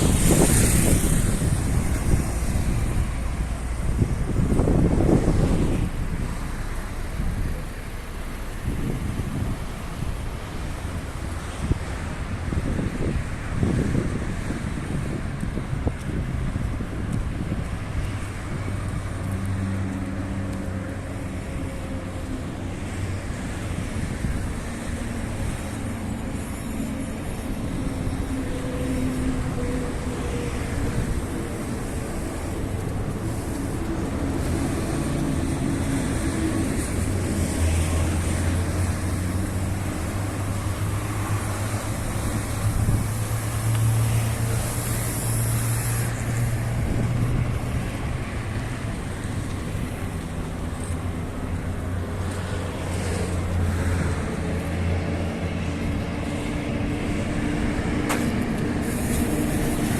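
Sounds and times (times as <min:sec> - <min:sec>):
road noise: 0:00.0 - 0:59.9
vehicle engines humming: 0:00.0 - 0:59.9
wind on microphone: 0:00.0 - 0:59.9.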